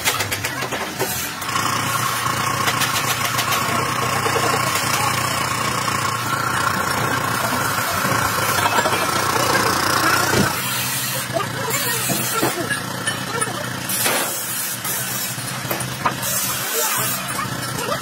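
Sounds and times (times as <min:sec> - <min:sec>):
motor running with whine: 0:01.2 - 0:18.0.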